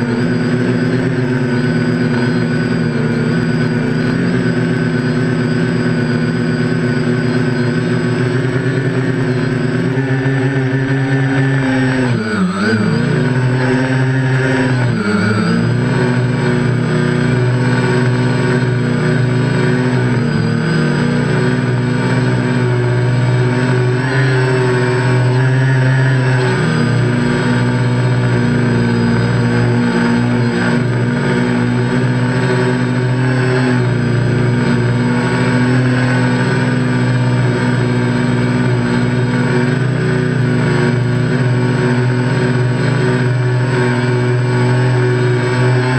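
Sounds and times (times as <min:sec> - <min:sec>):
drone motors whining: 0:00.0 - 0:45.9.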